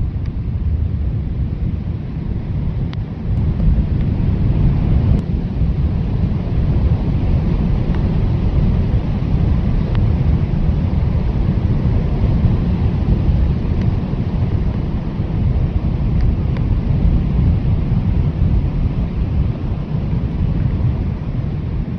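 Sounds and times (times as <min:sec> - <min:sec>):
blizzard wind blowing: 0:00.0 - 0:21.9.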